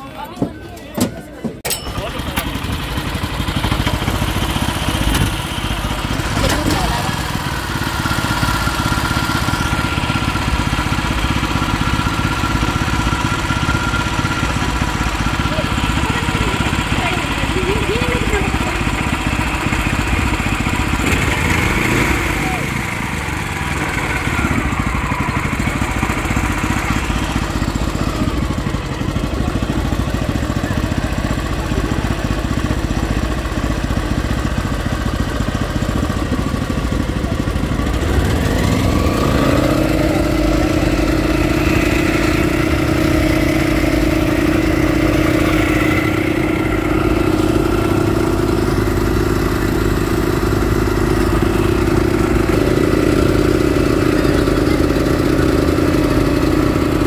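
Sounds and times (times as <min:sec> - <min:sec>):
petrol engine running: 0:00.0 - 0:57.0.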